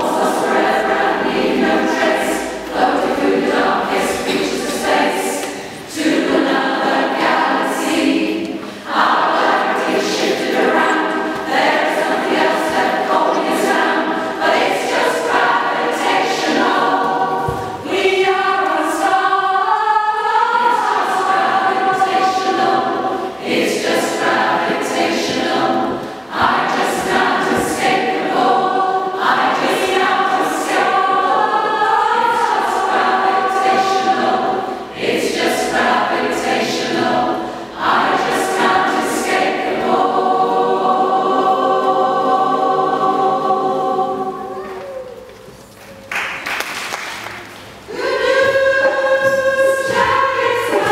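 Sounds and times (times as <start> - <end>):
choir singing: 0.0 - 45.5, 47.8 - 50.9.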